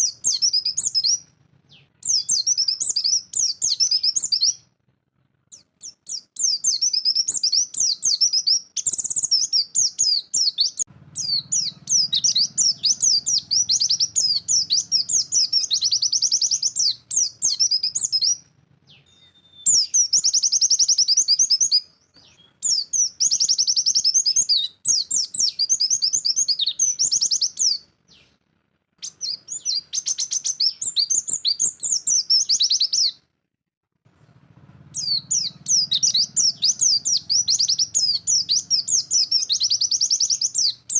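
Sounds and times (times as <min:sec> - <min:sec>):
bird singing fast high trills: 0:00.0 - 0:04.7, 0:05.5 - 0:28.3, 0:29.0 - 0:33.2, 0:34.8 - 0:40.9.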